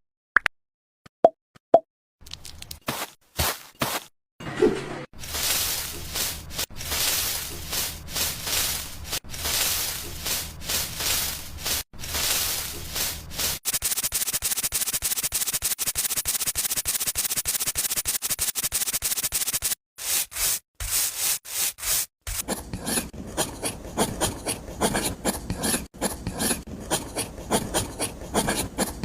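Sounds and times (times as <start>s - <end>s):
rubbing and rasping strokes: 5.2s - 29.0s.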